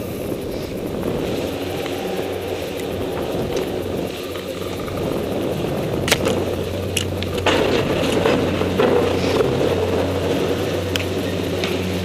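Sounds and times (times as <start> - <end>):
chairlift rumbling: 0.0 - 12.0.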